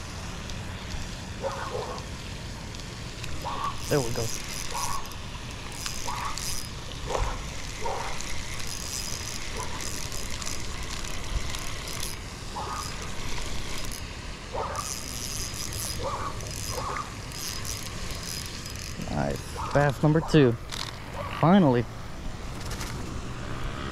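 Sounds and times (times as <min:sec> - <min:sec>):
fishing reel cranking: 0:00.0 - 0:23.8.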